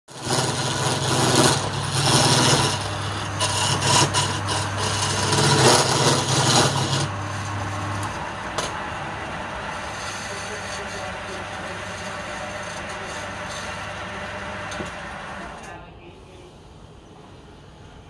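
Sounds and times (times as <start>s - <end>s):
chisel cutting spinning wood: 0.1s - 15.6s
lathe motor hum: 0.1s - 15.8s.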